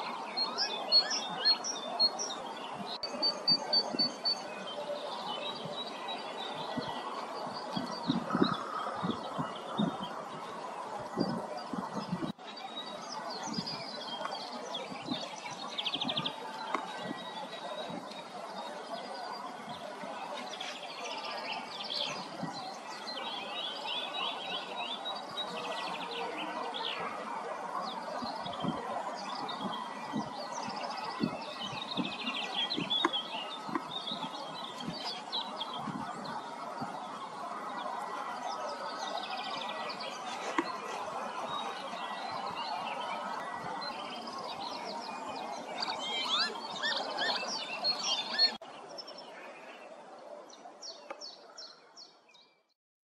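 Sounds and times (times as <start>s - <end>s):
songbirds singing and calling: 0.0s - 52.7s.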